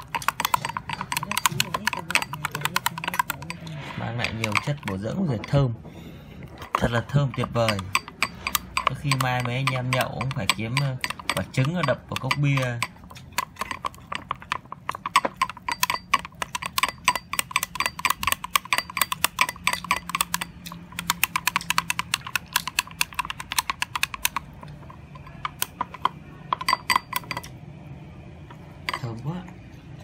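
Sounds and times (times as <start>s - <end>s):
chopsticks clicking against cup: 0.0s - 5.6s, 6.5s - 27.6s.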